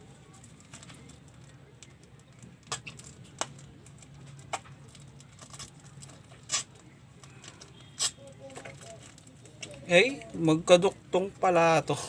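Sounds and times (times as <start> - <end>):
plastic bags crackling: 0.0 - 12.0.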